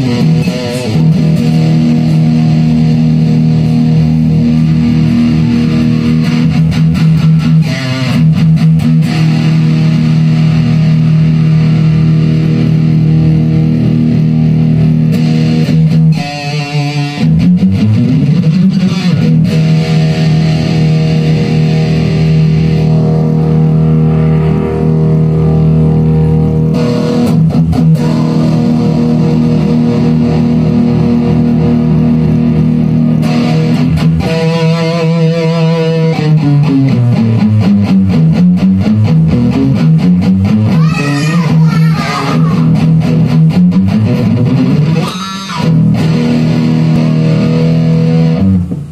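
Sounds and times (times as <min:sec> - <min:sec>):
distorted electric guitar chords: 0:00.0 - 0:48.9.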